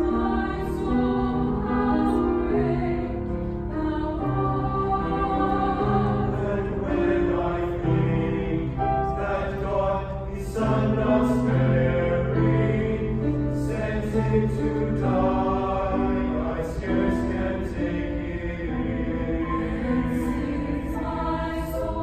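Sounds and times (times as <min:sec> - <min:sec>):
mixed choir singing: 0:00.0 - 0:22.0.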